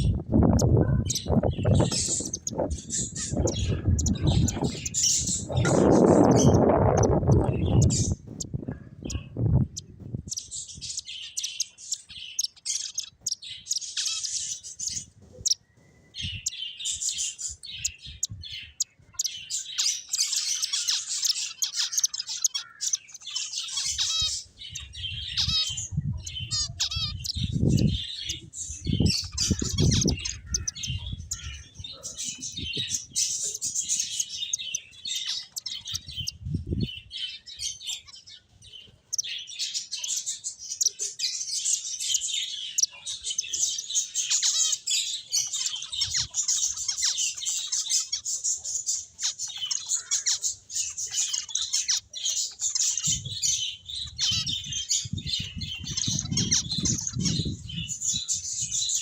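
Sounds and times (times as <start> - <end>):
finches chirping: 0.0 - 59.0.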